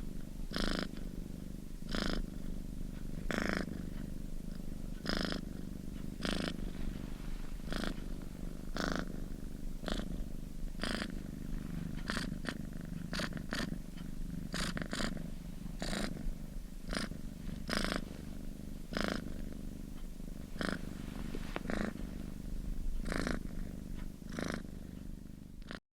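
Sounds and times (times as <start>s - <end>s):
cat purring: 0.0s - 25.8s.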